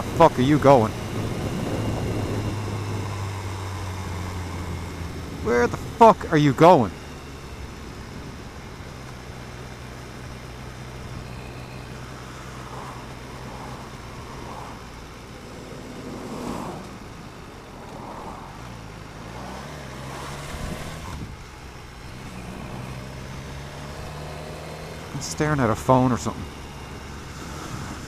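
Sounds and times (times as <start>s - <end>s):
cars passing: 0.0s - 28.0s
motorcycle engine at low revs: 0.0s - 28.0s.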